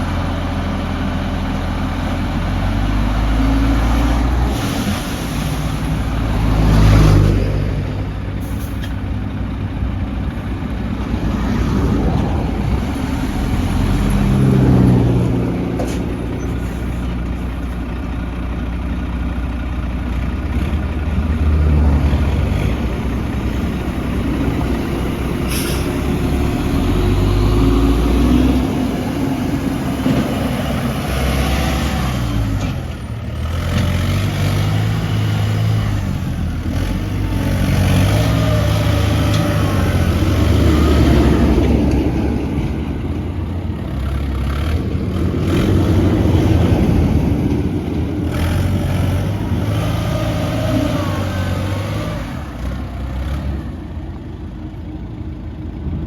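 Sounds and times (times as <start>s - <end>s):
heavy diesel engines revving: 0.0s - 56.0s.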